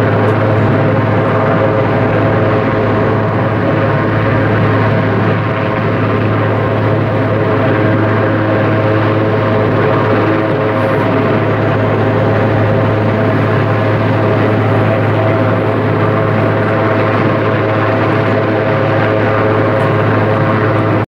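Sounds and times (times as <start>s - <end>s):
helicopter hovering: 0.0s - 21.0s.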